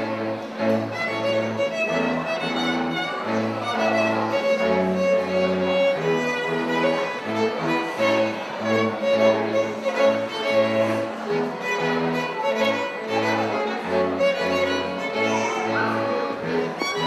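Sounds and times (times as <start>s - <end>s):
cello low line: 0.0s - 17.0s
violins bowing melody: 0.0s - 17.0s.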